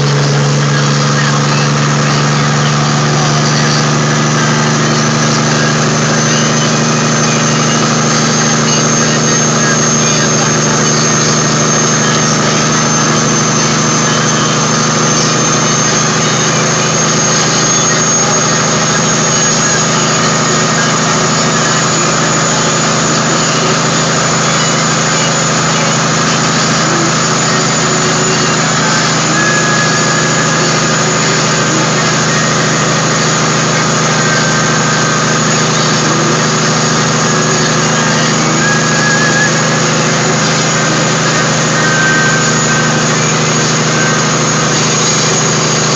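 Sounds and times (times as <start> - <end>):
diesel truck engine running: 0.0 - 45.9
high-pitched whine: 0.0 - 45.9.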